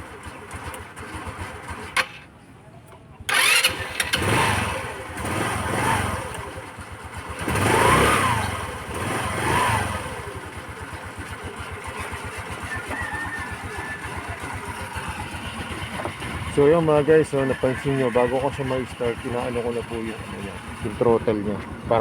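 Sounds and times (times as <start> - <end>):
scooter engine revving and idling: 0.0 - 2.3, 3.2 - 22.0.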